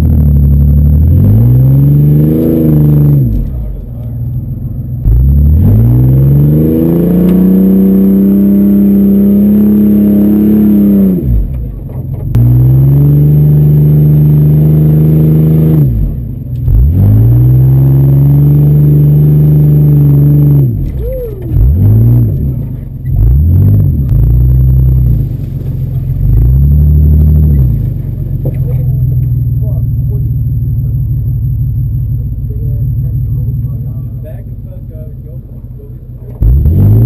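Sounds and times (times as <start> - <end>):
vehicle engine revving: 0.0 - 37.0.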